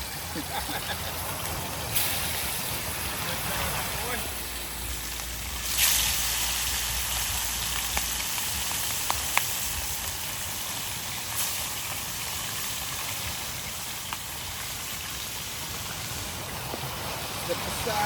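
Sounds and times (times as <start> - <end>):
fish sizzling in hot oil: 0.0 - 18.0
oil popping and crackling: 0.0 - 18.0.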